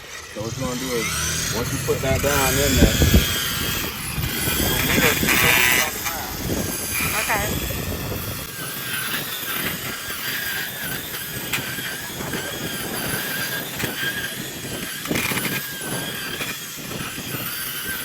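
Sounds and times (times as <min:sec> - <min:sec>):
blade ticking on concrete: 0:00.0 - 0:18.0
lawn edger whining: 0:00.0 - 0:18.0.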